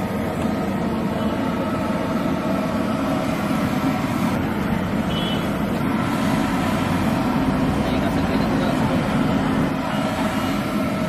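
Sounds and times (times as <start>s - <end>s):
low hum of street noise: 0.0s - 11.0s.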